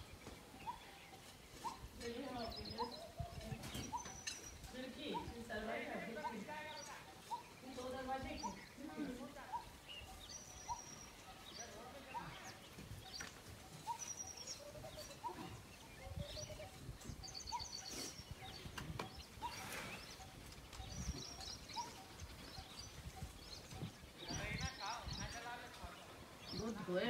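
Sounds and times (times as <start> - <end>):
birds chirping: 0.0 - 27.0
high bird twittering: 0.5 - 27.0.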